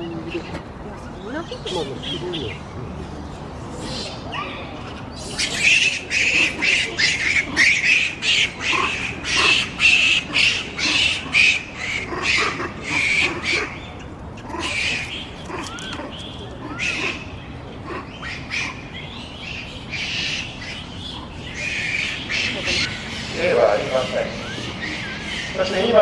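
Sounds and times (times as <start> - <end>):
monkey screeching calls: 3.8 - 26.0.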